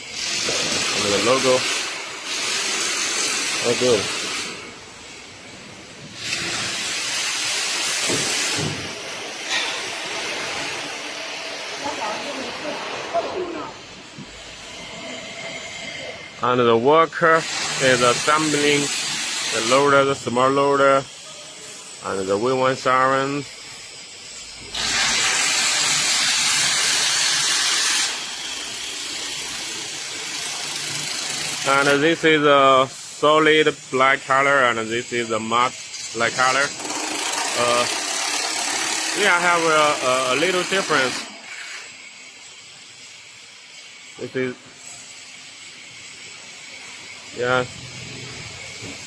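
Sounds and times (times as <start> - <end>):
compressed air hissing: 0.0 - 49.0.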